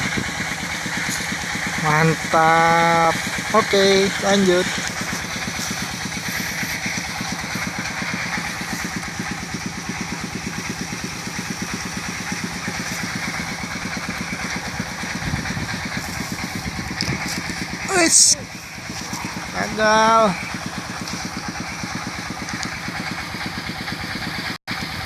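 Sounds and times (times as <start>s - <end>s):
small engine idling: 0.0s - 25.0s.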